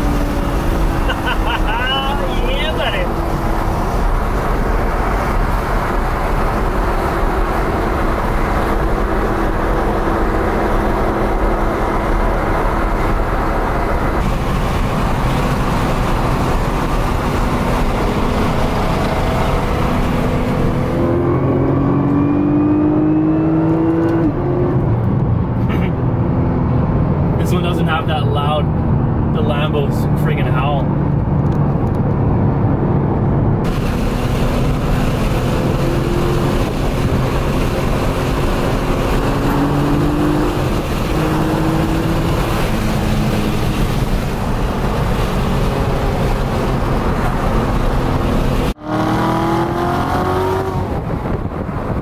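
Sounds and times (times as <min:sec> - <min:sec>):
car engine: 0:00.0 - 0:52.0
road noise inside car: 0:00.0 - 0:52.0.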